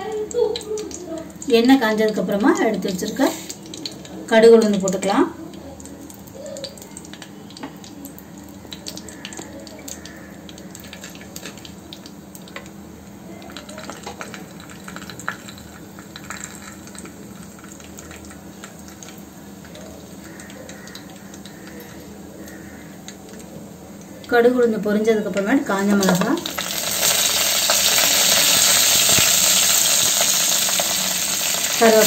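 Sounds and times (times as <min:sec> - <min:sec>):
seeds crackling and popping: 0:00.0 - 0:24.4, 0:25.2 - 0:32.0
seeds sizzling in hot oil: 0:00.0 - 0:32.0.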